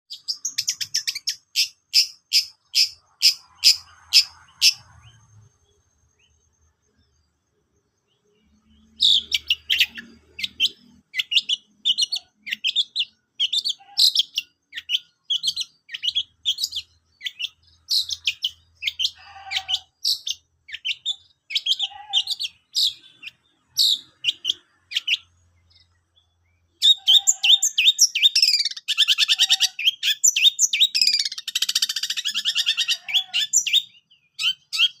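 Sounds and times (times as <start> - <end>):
bird repeating sharp high calls: 0.1 - 5.2, 8.9 - 25.8, 26.8 - 35.0
bird chattering song: 0.1 - 7.4, 8.0 - 35.0.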